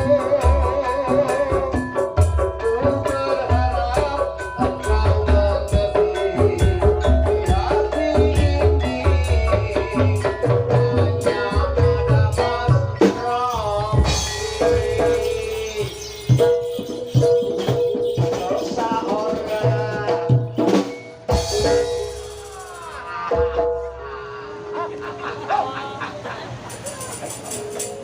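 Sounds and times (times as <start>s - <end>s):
drums and rattling percussion: 0.0s - 24.2s, 26.5s - 28.0s
bending melodic lead line: 0.0s - 25.8s.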